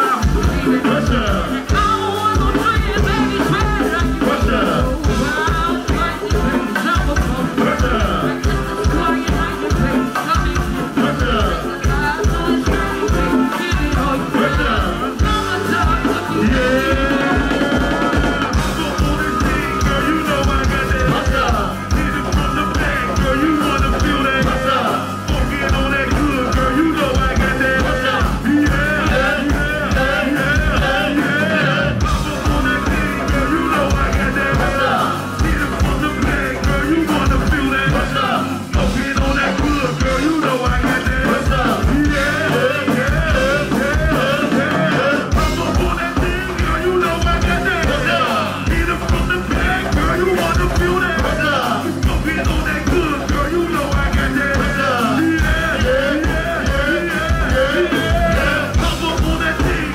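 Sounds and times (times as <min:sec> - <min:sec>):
busy drum beat: 0:00.0 - 0:59.9
loud band music: 0:00.0 - 0:59.9.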